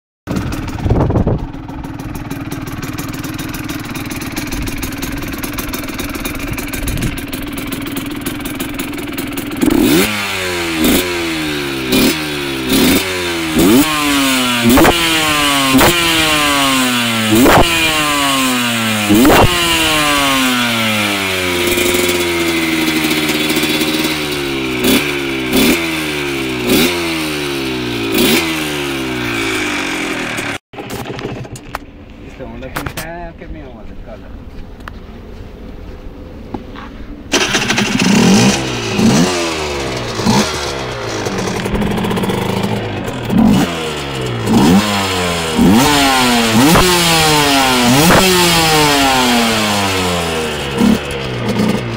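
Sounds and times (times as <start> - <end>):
motorcycle engine idling and revving: 0.3 - 33.2, 34.2 - 51.9.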